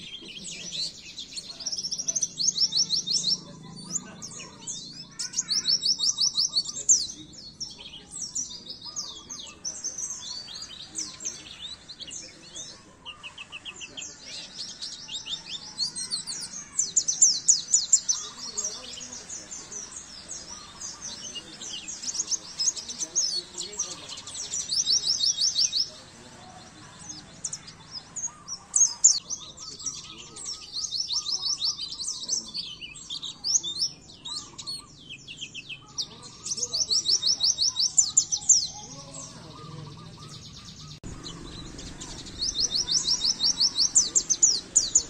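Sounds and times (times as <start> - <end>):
songbird chirping trills: 0.0 - 45.0.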